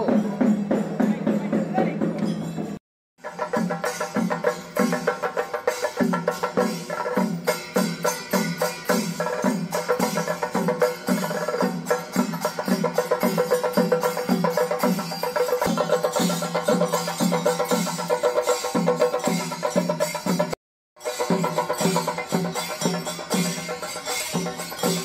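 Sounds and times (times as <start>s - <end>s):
percussion ensemble drumming: 0.0s - 25.0s.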